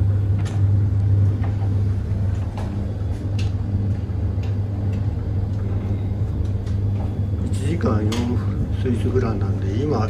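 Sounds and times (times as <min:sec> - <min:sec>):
tumble dryer humming: 0:00.0 - 0:10.0.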